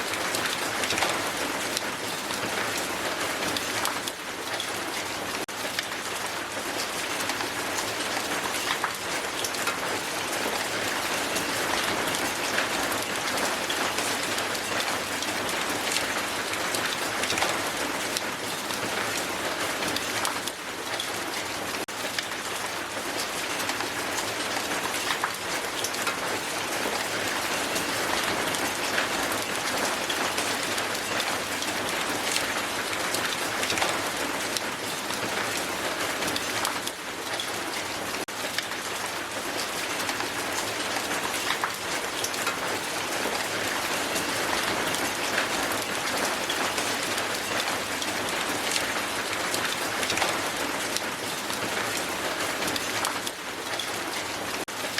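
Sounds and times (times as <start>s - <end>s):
hail on hard surface: 0.0s - 54.9s.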